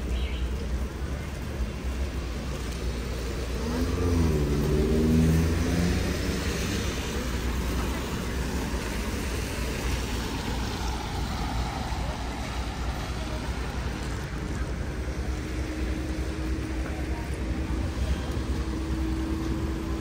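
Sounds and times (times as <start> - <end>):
rumble of passing vehicles: 0.0 - 20.0
steady engine hum: 0.0 - 20.0
tyres hissing on wet road: 0.0 - 20.0.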